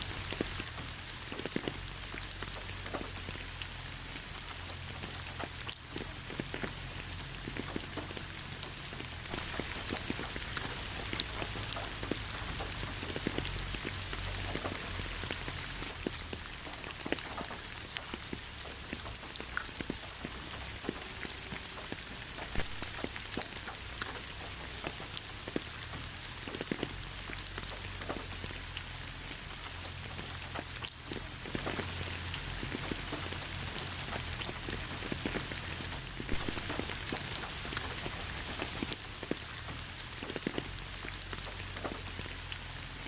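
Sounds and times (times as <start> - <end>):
rain hiss: 0.0 - 43.0
raindrops ticking on hard surface: 0.0 - 43.0.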